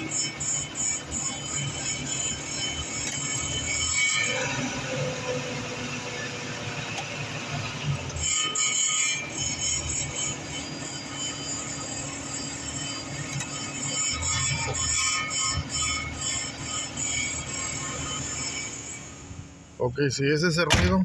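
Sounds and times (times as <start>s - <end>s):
engine and road rumble: 0.0s - 8.6s, 9.2s - 21.0s.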